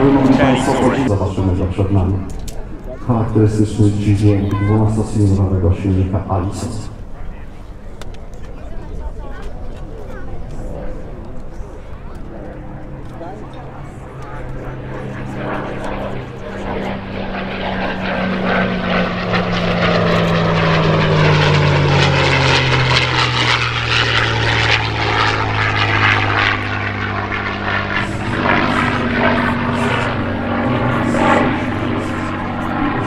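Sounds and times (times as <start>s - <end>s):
propeller plane engine fly-by: 0.0s - 33.0s.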